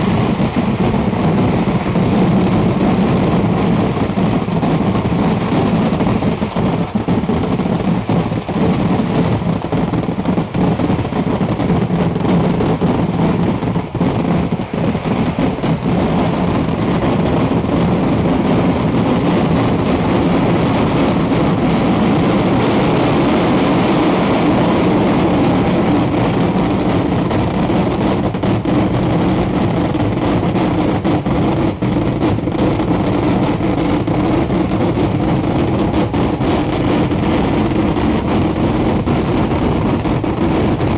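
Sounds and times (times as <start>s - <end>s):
fireworks cracks: 0.0s - 40.9s
fireworks explosions rumbling: 0.0s - 40.9s.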